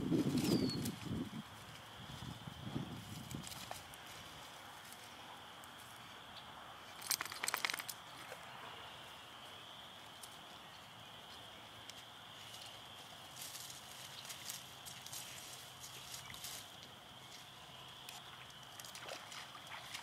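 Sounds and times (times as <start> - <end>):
rustling on sand and dry grass: 0.0 - 20.0.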